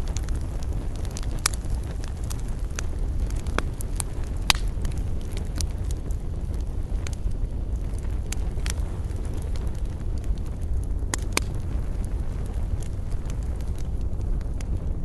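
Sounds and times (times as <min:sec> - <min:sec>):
campfire crackling: 0:00.0 - 0:15.0
fire popping: 0:00.0 - 0:15.0
low rumble: 0:00.0 - 0:15.0.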